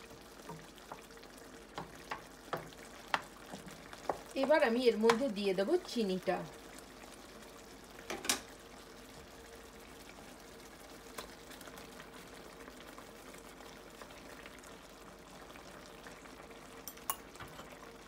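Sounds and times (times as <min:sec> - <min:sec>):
chutney bubbling and popping: 0:00.0 - 0:18.0.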